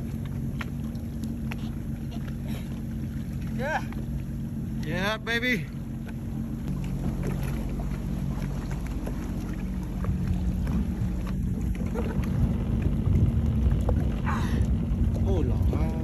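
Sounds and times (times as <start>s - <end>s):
jet ski engine idling: 0.0s - 16.0s.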